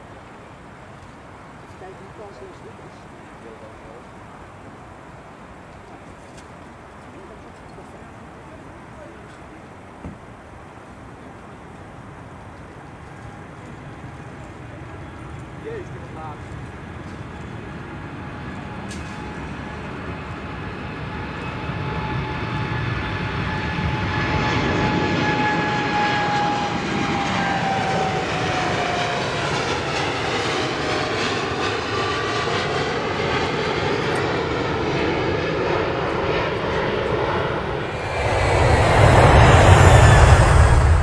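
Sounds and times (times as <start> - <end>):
jet engines at takeoff: 0.0 - 41.0.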